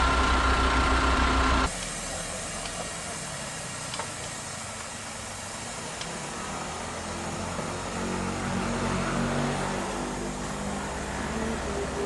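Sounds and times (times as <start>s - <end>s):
diesel truck engine idling: 0.0s - 8.9s, 9.7s - 12.0s
background hiss: 1.7s - 12.0s.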